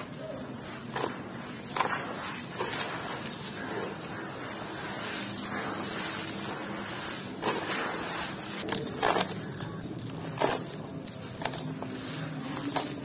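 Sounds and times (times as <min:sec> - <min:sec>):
hands squelching wet dirt: 0:00.0 - 0:13.0.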